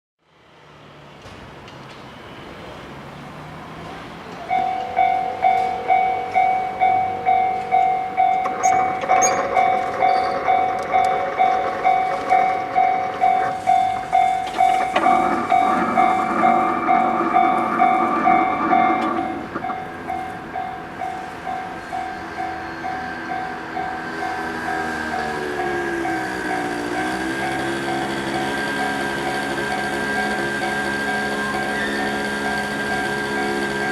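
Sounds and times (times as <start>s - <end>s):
freight train passing: 0.3s - 33.9s
level-crossing warning bell: 4.4s - 33.9s.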